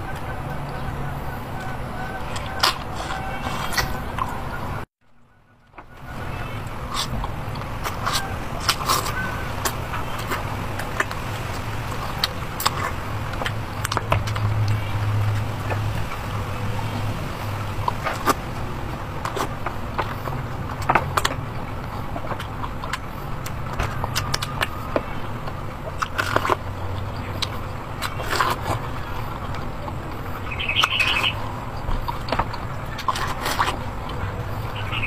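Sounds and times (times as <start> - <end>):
chewing and mouth clicks: 1.5 - 4.7, 5.8 - 35.0.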